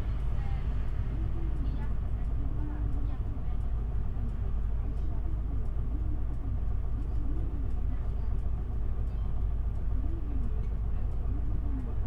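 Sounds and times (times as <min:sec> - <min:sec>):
diesel bus engine idling: 0:00.0 - 0:11.8.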